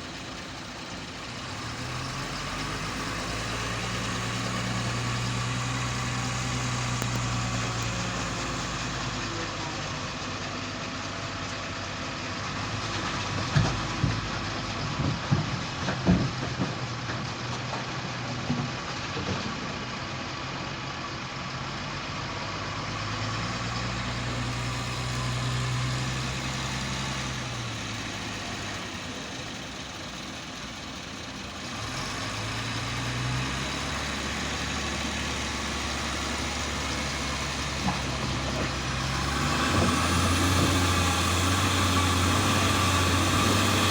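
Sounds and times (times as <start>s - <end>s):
heavy truck engine running: 0.0s - 43.9s.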